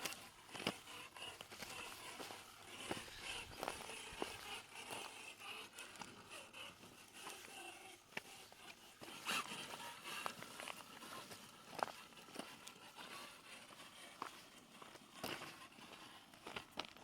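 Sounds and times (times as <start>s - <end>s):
electric toy truck motor whining: 0.0s - 17.0s.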